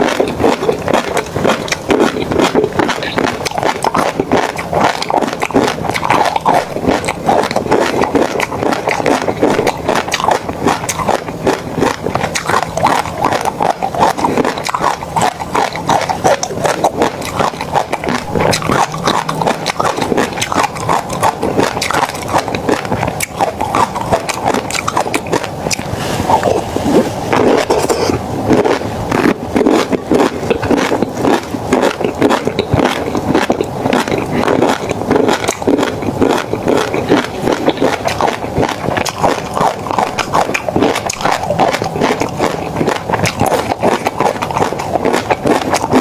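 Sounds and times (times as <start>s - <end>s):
chewing and mouth smacking: 0.0s - 46.0s.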